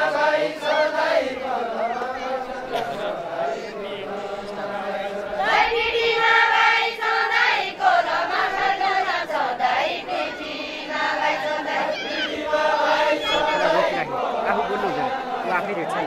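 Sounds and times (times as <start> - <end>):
women singing folk song: 0.0 - 16.0.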